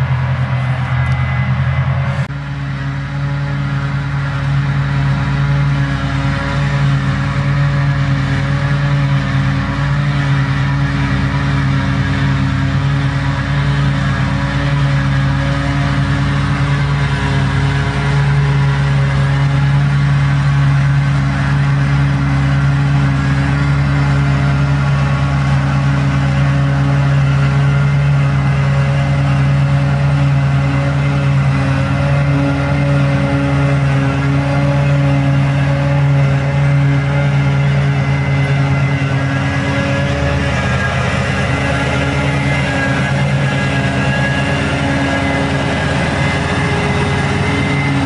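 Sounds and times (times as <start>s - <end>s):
forage harvester engine drone: 0.0s - 48.0s.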